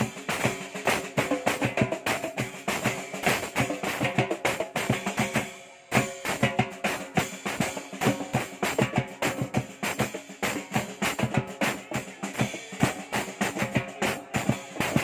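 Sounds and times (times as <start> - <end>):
hand drums playing: 0.0 - 15.0
snare drum: 0.0 - 15.0.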